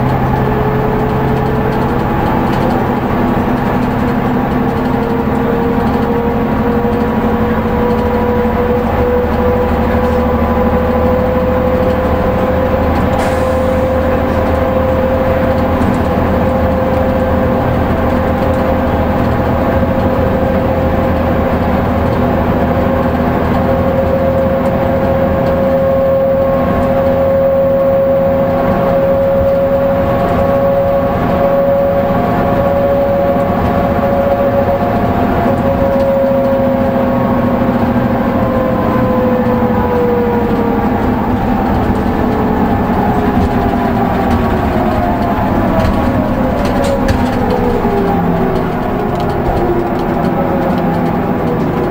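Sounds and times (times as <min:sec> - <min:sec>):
bus engine running: 0:00.0 - 0:51.9
steady low drone: 0:00.0 - 0:51.9
whine climbing in pitch: 0:00.0 - 0:51.9.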